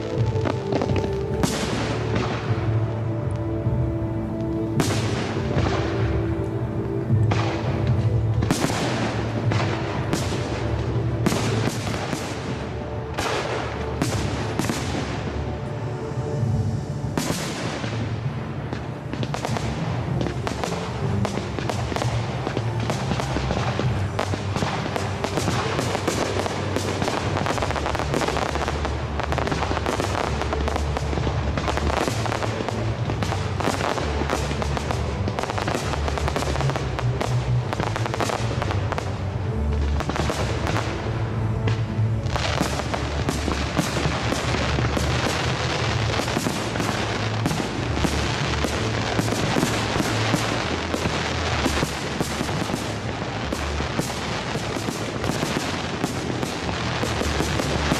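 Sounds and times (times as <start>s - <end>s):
fireworks bangs and crackles: 0.0s - 57.9s
music: 0.0s - 57.9s.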